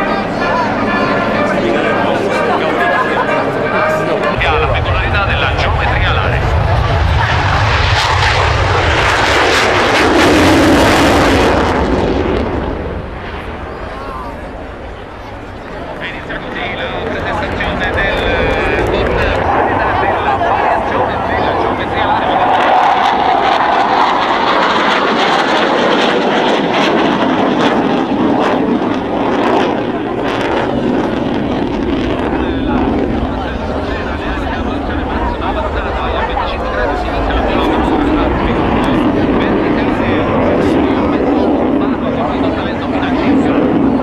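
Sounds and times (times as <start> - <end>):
jet aircraft low pass: 0.0 - 44.0.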